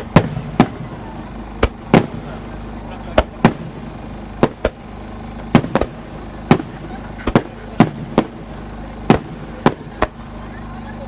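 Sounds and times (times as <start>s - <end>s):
firework shells bursting: 0.0s - 10.4s.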